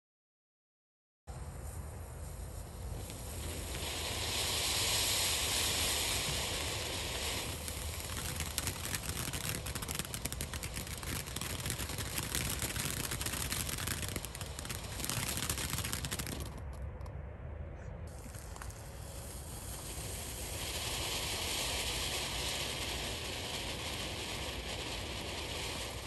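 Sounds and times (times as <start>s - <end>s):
fountain firework hissing: 2.2s - 16.7s, 18.1s - 26.0s
rapid firework crackling: 2.6s - 17.1s, 18.1s - 26.0s.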